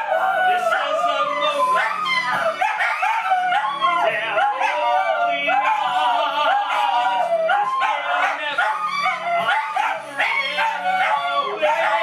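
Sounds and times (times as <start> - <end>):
dog yips: 0.0 - 5.8, 7.5 - 12.0
dogs howling: 0.0 - 12.0.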